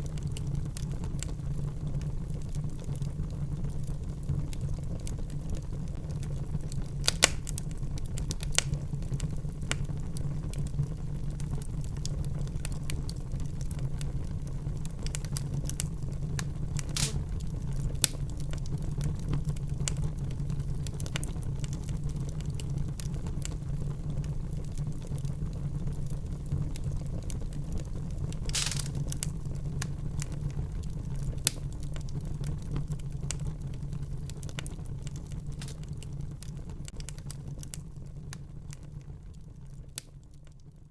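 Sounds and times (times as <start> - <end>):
fire popping: 0.0 - 40.7
low rumble of flames: 0.0 - 40.9
wood fire crackling: 0.0 - 40.9.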